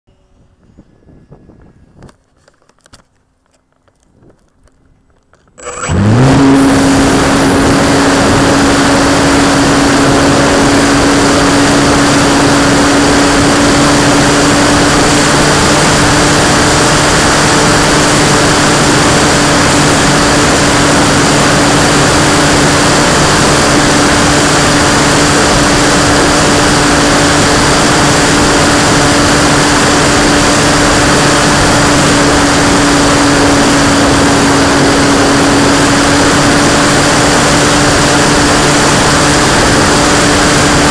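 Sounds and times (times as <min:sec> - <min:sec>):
model plane motor drone: 0:00.1 - 0:40.9
wind rush: 0:00.2 - 0:02.3, 0:05.8 - 0:40.9.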